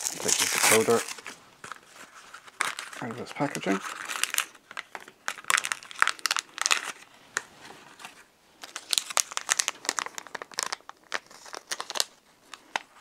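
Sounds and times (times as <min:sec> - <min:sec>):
plastic bag crinkling: 0:00.0 - 0:07.1, 0:07.8 - 0:13.0.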